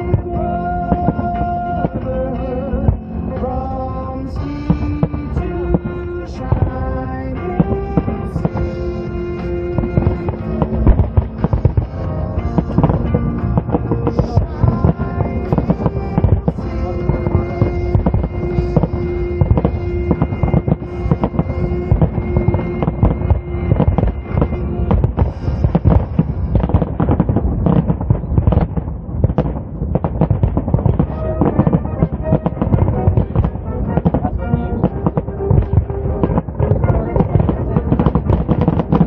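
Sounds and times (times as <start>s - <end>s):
fireworks bursting and crackling: 0.0s - 39.0s
music playing: 0.0s - 39.0s.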